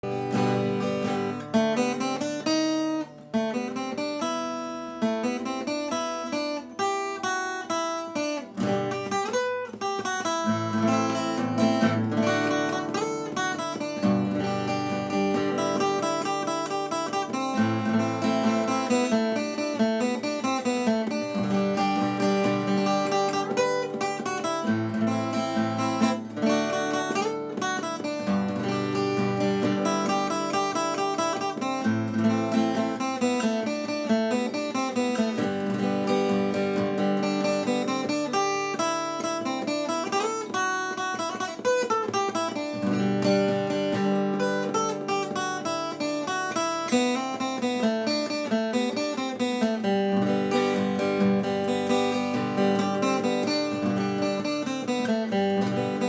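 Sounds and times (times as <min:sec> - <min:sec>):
acoustic guitar tune: 0:00.0 - 0:56.0.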